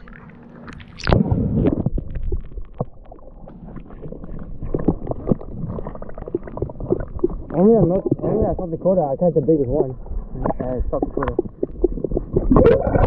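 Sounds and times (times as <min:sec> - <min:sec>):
muffled water sloshing and gurgling: 0:00.0 - 0:13.0.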